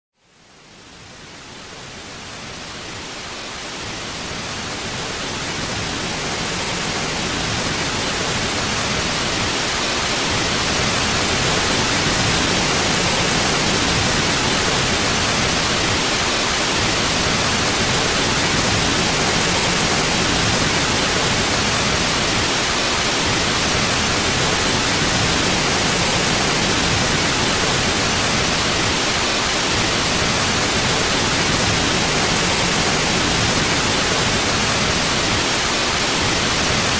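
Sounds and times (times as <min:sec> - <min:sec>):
white noise hiss: 0:00.2 - 0:36.9.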